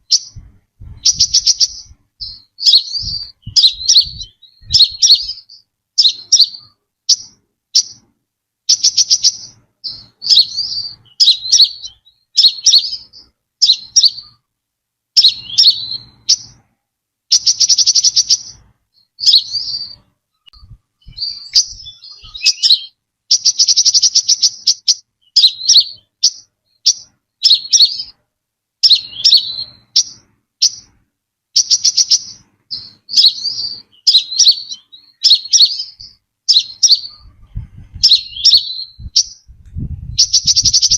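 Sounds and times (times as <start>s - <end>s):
bird rapid trill: 0.0s - 8.0s, 8.7s - 14.4s, 15.2s - 16.6s, 17.3s - 28.2s, 28.8s - 31.0s, 31.6s - 39.5s, 40.1s - 40.9s
bird high chirping song: 0.0s - 14.5s, 15.2s - 40.9s.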